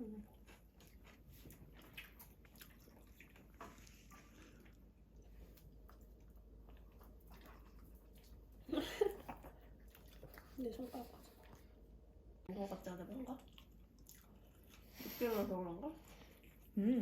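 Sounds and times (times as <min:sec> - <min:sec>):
faint chewing: 0:00.0 - 0:11.9, 0:12.6 - 0:17.0.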